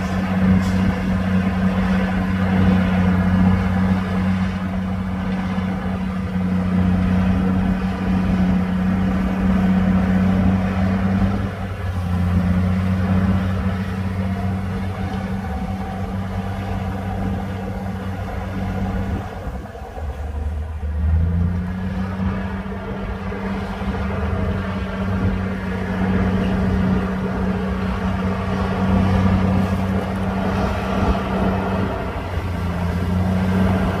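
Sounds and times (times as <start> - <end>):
bulldozer diesel engine under load: 0.0 - 34.0.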